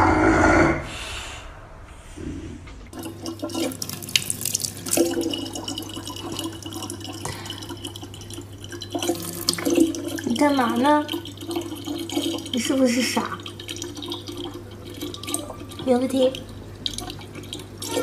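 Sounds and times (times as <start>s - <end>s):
tap water splashing: 2.9s - 18.0s.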